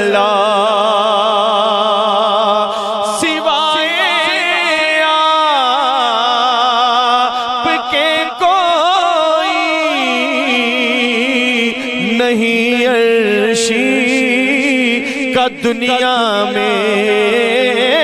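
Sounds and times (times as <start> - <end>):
man singing with vibrato: 0.0 - 18.0.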